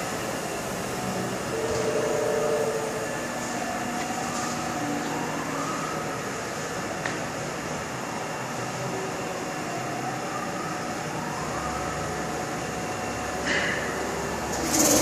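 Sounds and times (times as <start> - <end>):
machine mechanical hum: 0.0 - 15.0.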